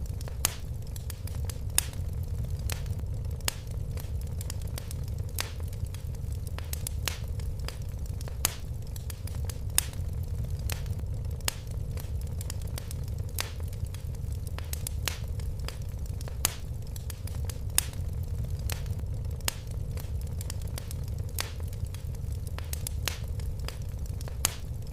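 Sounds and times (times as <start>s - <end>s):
fire crackling in fireplace: 0.0s - 24.9s.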